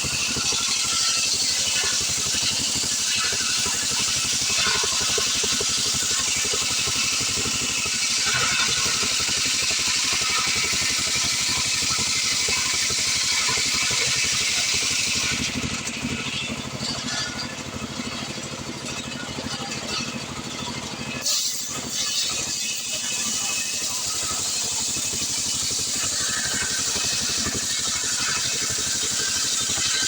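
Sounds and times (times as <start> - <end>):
chainsaw cutting wood: 0.0 - 20.1, 21.2 - 30.0.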